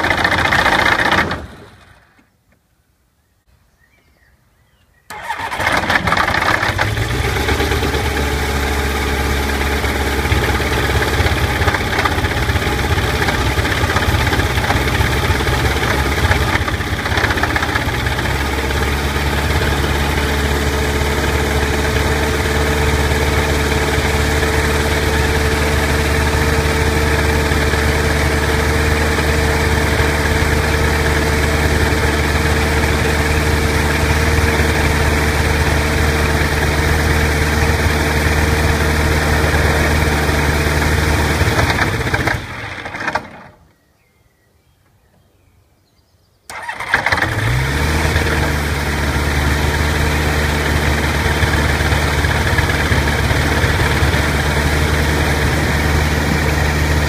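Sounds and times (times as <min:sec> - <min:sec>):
aircraft engine idling: 0:00.0 - 0:02.2, 0:05.1 - 0:43.5, 0:46.5 - 0:57.0.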